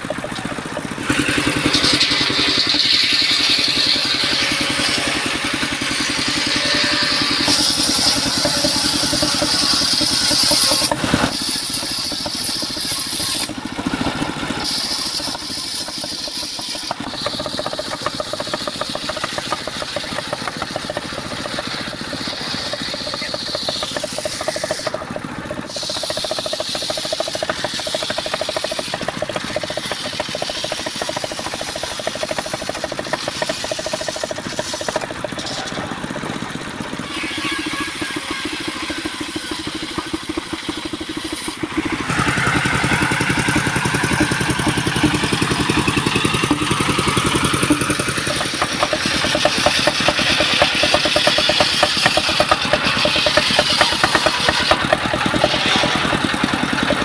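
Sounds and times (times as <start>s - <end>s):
sawmill machinery pulsing: 0.0s - 57.0s.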